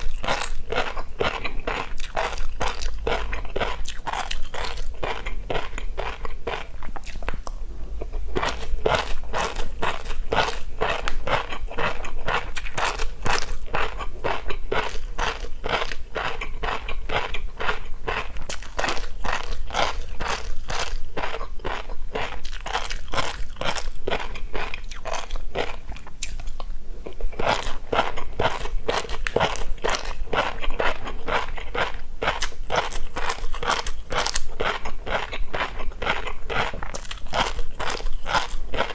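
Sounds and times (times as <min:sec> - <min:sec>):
chewing fish roe popping: 0:00.0 - 0:38.9.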